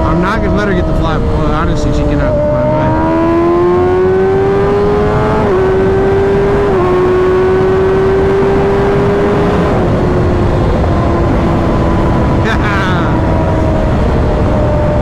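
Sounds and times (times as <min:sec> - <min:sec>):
motorcycle engine revving at speed: 0:00.0 - 0:15.0
wind rush on microphone: 0:00.0 - 0:15.0.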